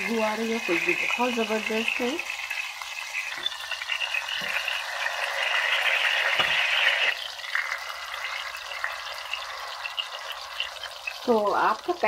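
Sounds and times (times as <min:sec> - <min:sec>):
kebabs sizzling in oil: 0:00.0 - 0:12.0
spatula turning food: 0:00.0 - 0:12.0.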